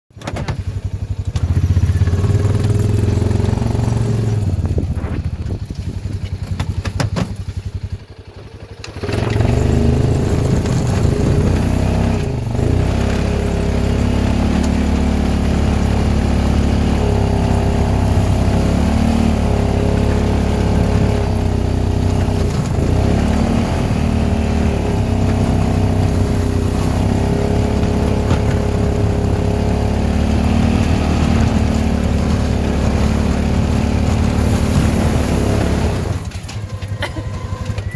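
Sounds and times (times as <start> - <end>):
engine working under load: 0.1 - 37.9.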